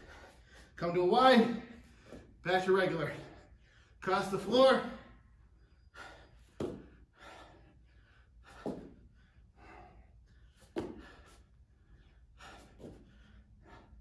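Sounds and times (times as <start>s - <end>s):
man breathing hard: 0.0s - 4.0s, 5.1s - 14.0s.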